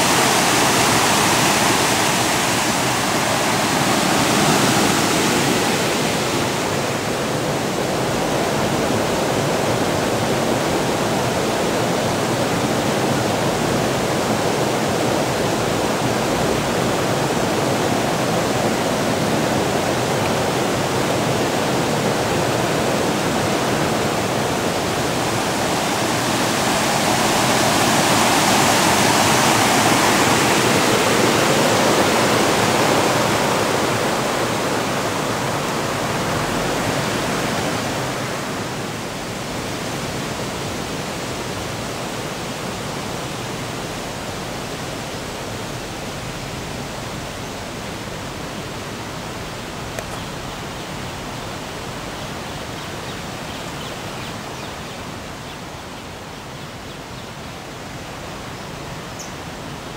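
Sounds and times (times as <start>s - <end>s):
water rushing over stone cascade: 0.0s - 53.5s.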